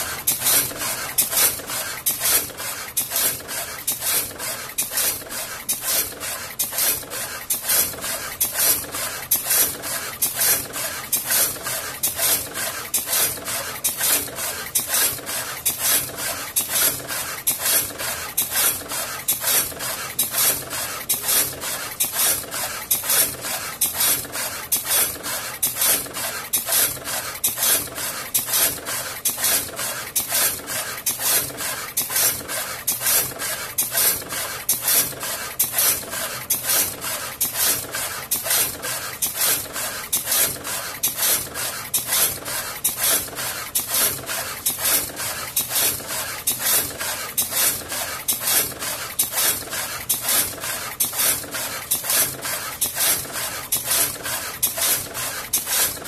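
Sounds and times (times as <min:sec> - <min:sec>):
insertion machine scratchy strokes: 0:00.0 - 0:56.0.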